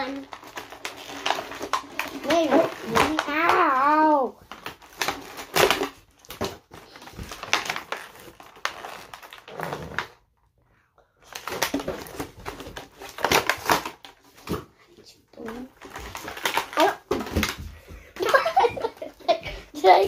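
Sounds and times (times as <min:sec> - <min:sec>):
packaging crinkling and rustling: 0:00.0 - 0:10.2, 0:11.2 - 0:19.9.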